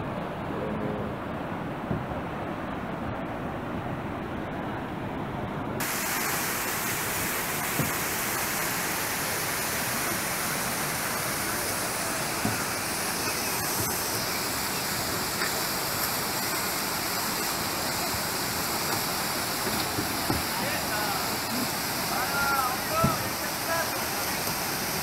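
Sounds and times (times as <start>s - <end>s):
rushing whitewater rapids: 0.0s - 25.0s.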